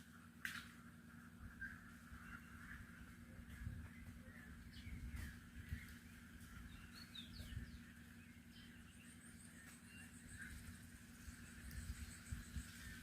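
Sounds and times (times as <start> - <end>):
songbird chirps: 0.0 - 13.0.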